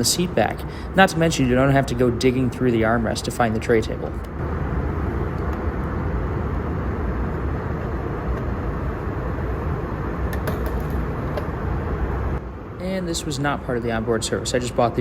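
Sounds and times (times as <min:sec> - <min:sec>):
airplane cabin airflow and engine drone: 0:00.0 - 0:15.0.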